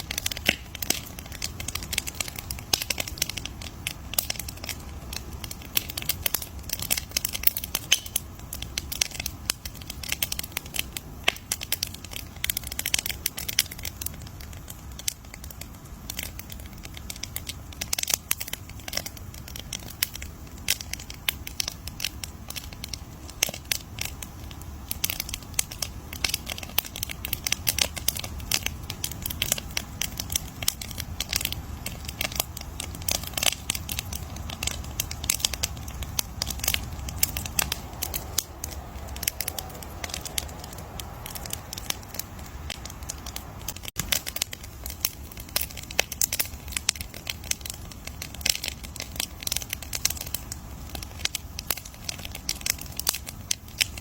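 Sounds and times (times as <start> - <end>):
campfire crackling: 0.0 - 54.0
low steady rumble: 0.0 - 54.0.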